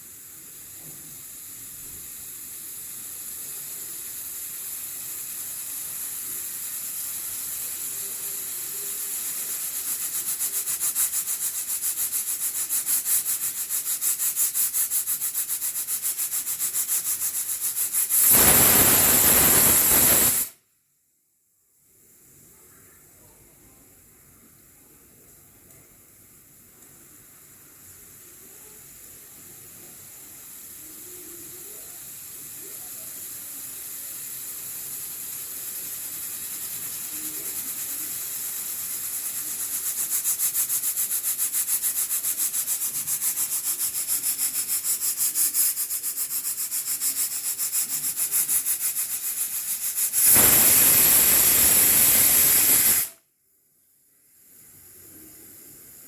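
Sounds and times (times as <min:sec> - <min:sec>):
pressure cooker steam hiss: 0:00.0 - 0:20.6, 0:21.8 - 0:53.3, 0:54.2 - 0:56.0
pressure cooker steam whistle: 0:00.0 - 0:20.6, 0:27.6 - 0:53.2
steam pulsing past regulator weight: 0:00.1 - 0:20.5, 0:27.1 - 0:53.1.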